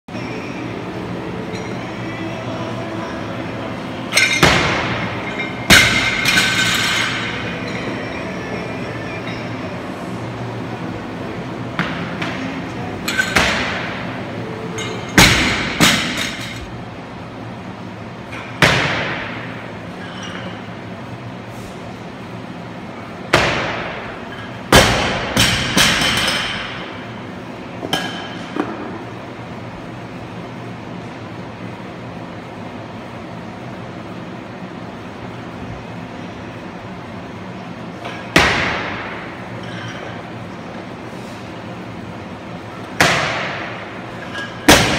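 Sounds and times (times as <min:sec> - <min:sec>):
steady background hum: 0:00.1 - 0:44.9.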